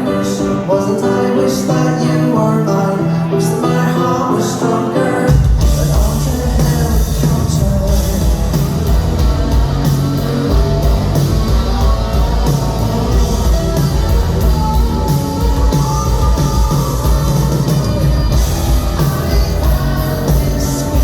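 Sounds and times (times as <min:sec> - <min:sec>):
person singing: 0:00.0 - 0:09.8, 0:10.4 - 0:21.0
live rock band playing: 0:00.0 - 0:21.0.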